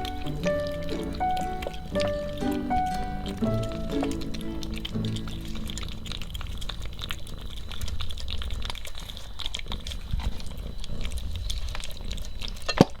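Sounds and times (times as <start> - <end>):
cat chewing wetly: 0.0 - 13.0.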